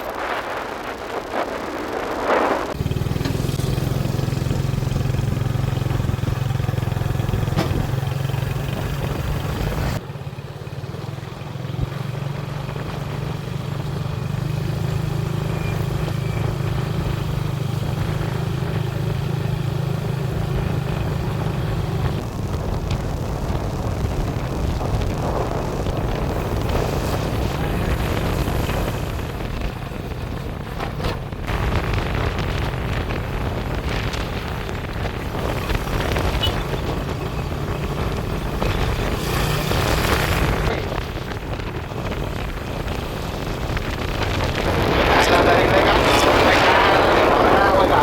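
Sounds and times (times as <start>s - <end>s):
road and wind noise: 0.0s - 48.0s
motorbike engine running: 0.2s - 48.0s.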